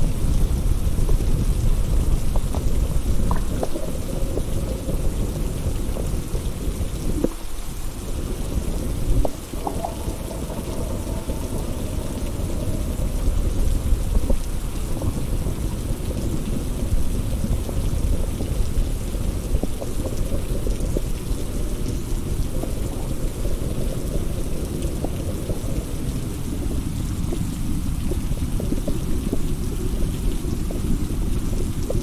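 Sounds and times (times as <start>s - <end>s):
heavy rain: 0.0s - 32.0s
low rumble of thunder: 0.0s - 32.0s.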